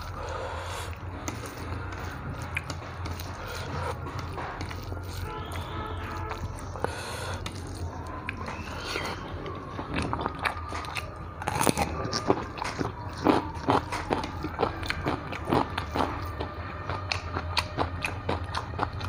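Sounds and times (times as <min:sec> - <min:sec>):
crunching and chewing carrot: 0:00.0 - 0:19.0.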